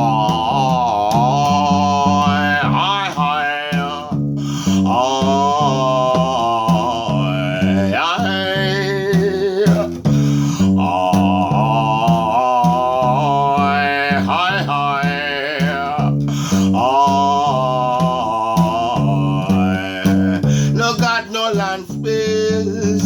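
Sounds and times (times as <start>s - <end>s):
man singing wordlessly: 0.0s - 23.0s
plucked one-string guitar riff: 0.0s - 23.0s.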